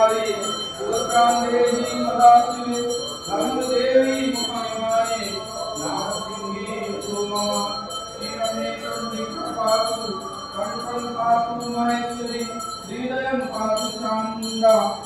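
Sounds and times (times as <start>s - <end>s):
men chanting a hymn: 0.0s - 15.0s
small bell ringing: 0.0s - 15.0s.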